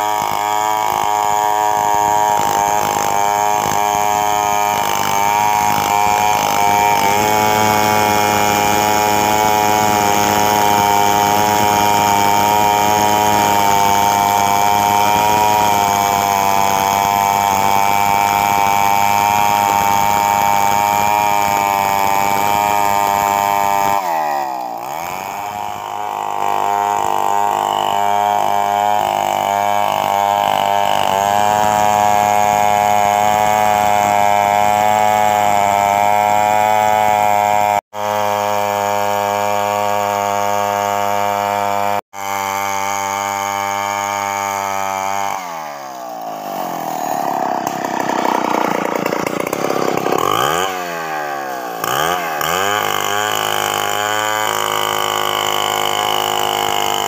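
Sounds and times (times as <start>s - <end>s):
chainsaw cutting timber: 0.0s - 57.0s.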